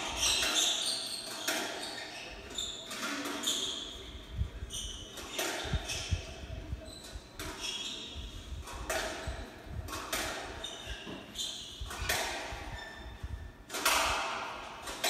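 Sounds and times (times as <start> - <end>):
shoe squeaks on court: 0.0 - 13.5.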